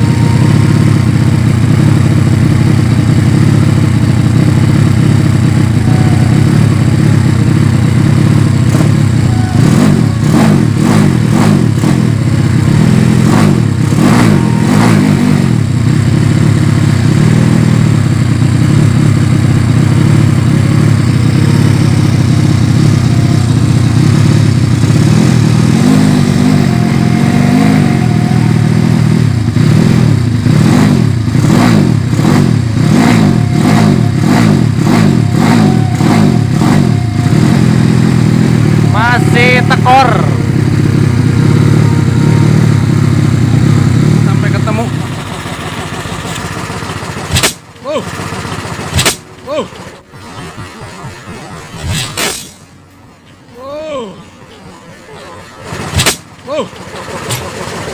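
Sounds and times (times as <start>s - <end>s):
motorcycle engine revving: 0.0s - 52.9s, 53.9s - 57.9s.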